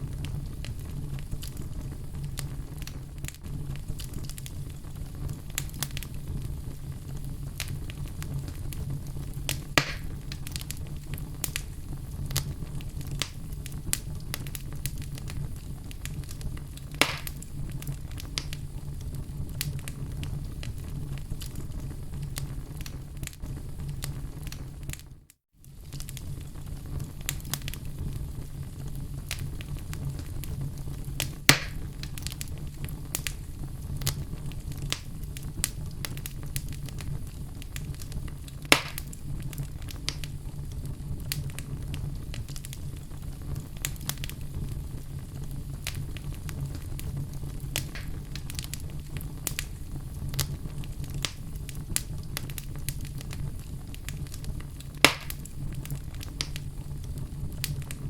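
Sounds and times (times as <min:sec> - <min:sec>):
crackling fire: 0:00.0 - 0:58.0
loud fire pops: 0:00.0 - 0:58.0.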